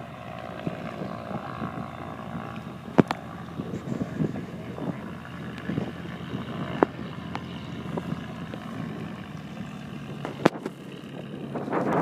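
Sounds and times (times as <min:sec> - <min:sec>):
distant propeller plane droning: 0:00.0 - 0:12.0
wind buffeting microphone: 0:00.0 - 0:12.0.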